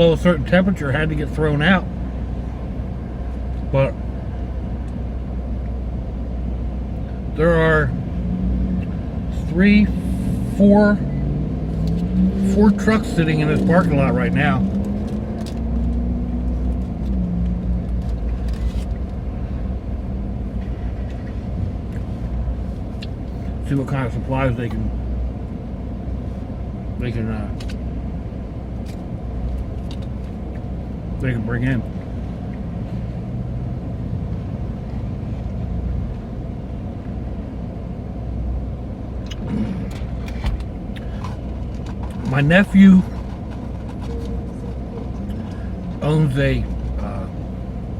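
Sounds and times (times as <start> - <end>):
vehicle engine idling: 0.0 - 47.9.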